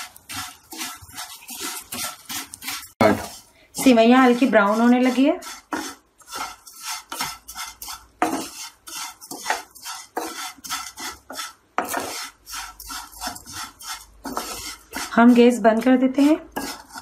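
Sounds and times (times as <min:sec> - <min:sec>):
wooden spatula scraping frying pan: 0:00.0 - 0:17.0.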